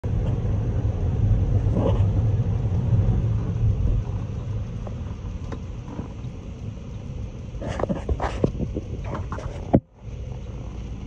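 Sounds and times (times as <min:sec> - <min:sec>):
car driving through floodwater: 0:00.0 - 0:11.0.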